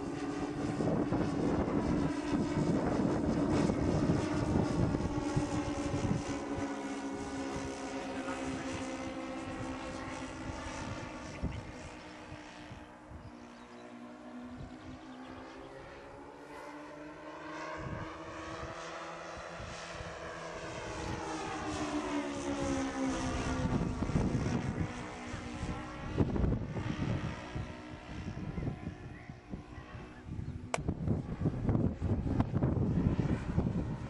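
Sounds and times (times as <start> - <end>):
model aircraft propeller drone: 0.0 - 34.0.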